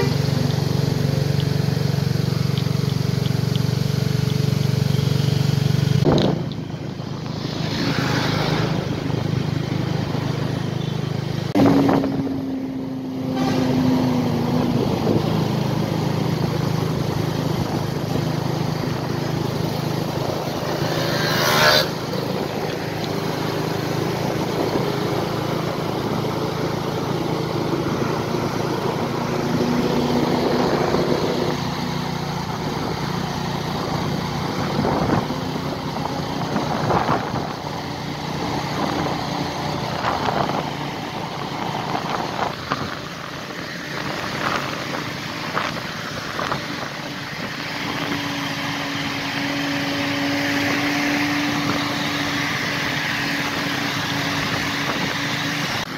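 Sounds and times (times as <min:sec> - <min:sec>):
truck engine under load: 0:00.0 - 0:55.9.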